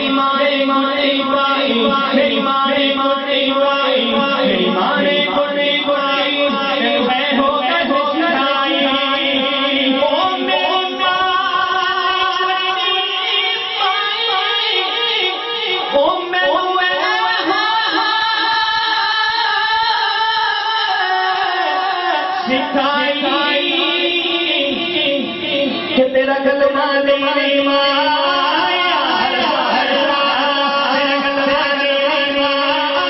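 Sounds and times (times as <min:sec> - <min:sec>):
man singing into a microphone: 0:00.0 - 0:33.0.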